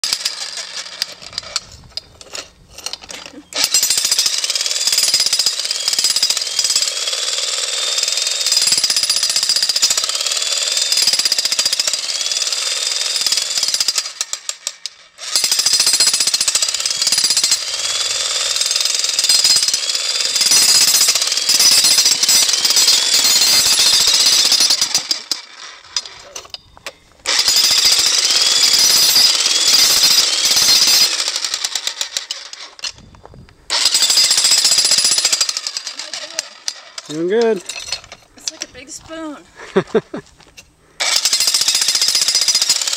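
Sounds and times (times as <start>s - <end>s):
jackhammer hammering: 3.2s - 26.2s, 27.3s - 32.8s, 33.7s - 39.1s, 41.0s - 42.9s.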